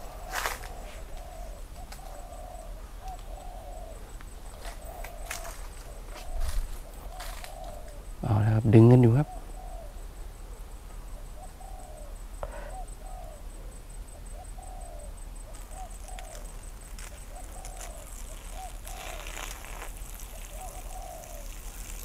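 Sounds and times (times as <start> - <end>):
doves cooing: 0.0 - 22.0
intermittent hiss: 0.0 - 22.0.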